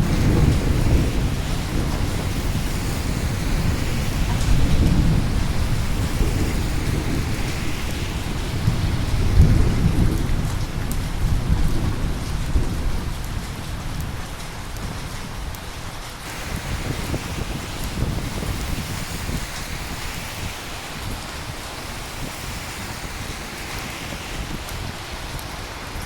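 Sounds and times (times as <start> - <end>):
rolling thunder: 0.0 - 15.5, 16.3 - 26.0
steady rain: 0.0 - 26.0.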